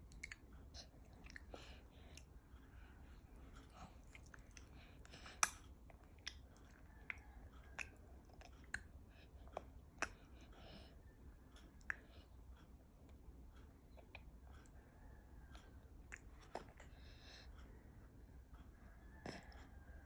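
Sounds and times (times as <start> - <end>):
baby chewing with wet mouth clicks: 0.0 - 17.6, 19.1 - 19.8.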